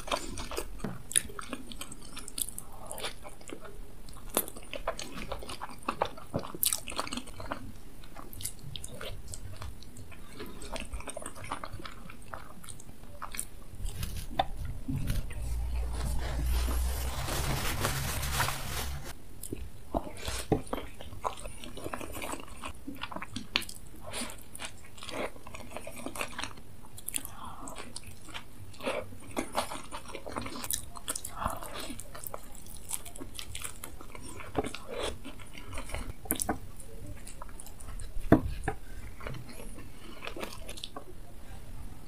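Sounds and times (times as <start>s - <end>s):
person chewing bread: 0.0s - 41.1s.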